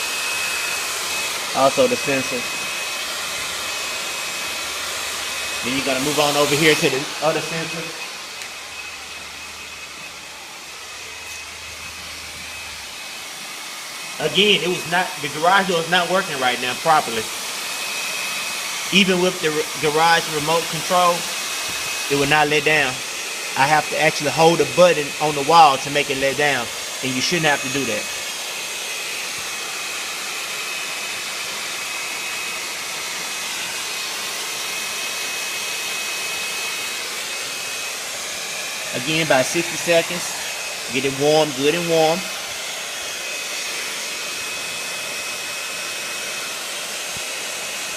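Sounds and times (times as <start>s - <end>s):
hair dryer running: 0.0s - 47.9s.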